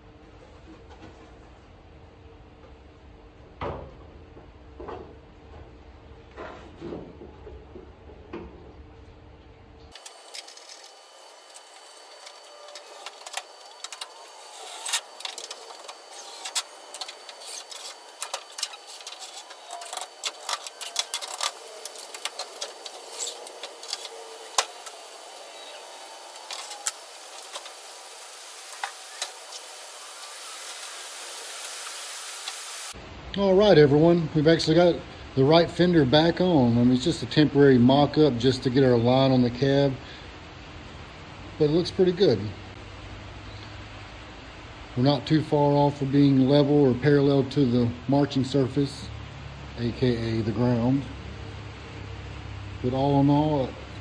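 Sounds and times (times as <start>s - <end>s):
faint hiss: 9.9s - 54.0s.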